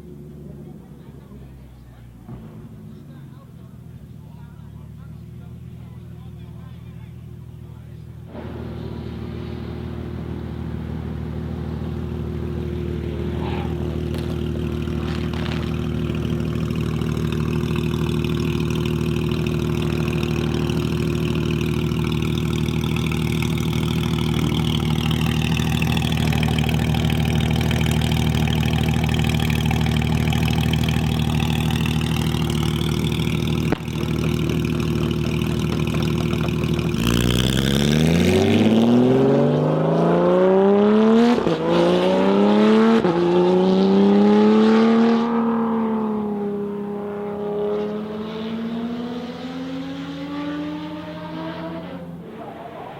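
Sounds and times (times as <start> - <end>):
car engine idling and revving: 0.0 - 52.9
faint engine pitch sweeping: 0.0 - 52.9.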